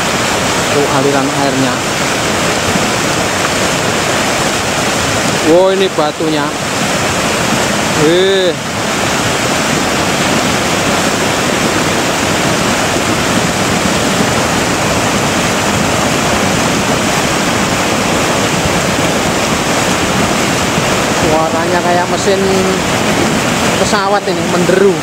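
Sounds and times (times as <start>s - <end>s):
mudflow roaring down river channel: 0.0s - 25.0s.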